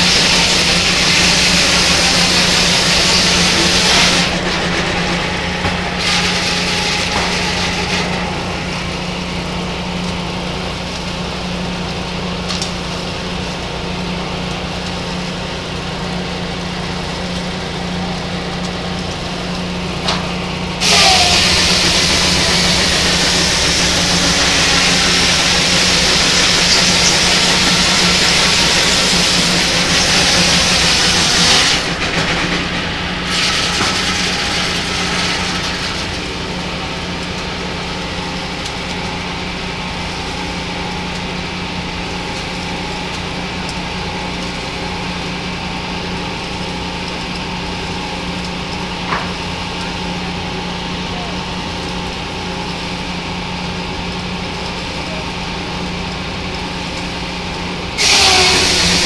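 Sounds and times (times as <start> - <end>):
circular saw cutting log: 0.0 - 50.4, 56.4 - 59.0
mill machinery humming: 0.0 - 59.0.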